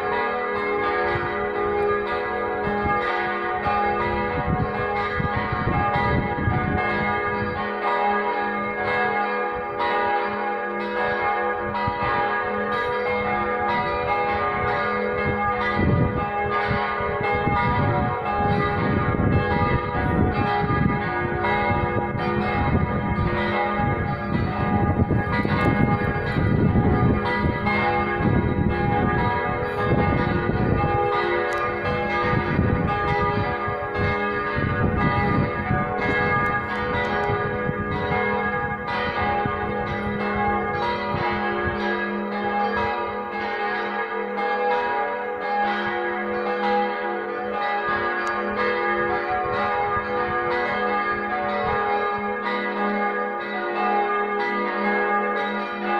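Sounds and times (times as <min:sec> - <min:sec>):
church bells ringing: 0:00.0 - 0:55.9.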